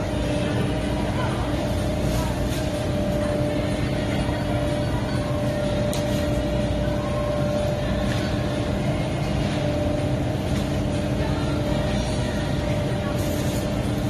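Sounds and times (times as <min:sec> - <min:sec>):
constant hum: 0:00.0 - 0:14.0.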